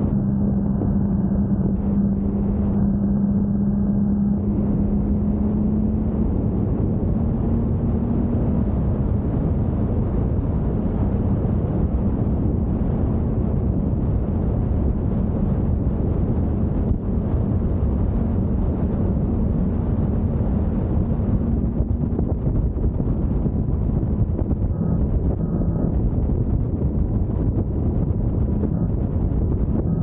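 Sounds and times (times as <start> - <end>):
motorcycle engine hum: 0.0 - 30.0
wind rush and road rumble: 0.0 - 30.0.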